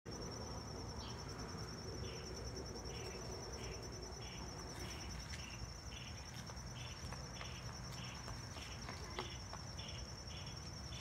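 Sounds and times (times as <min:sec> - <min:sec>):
high-pitched insect trill: 0:00.1 - 0:11.0
lower insect chirp: 0:00.1 - 0:11.0.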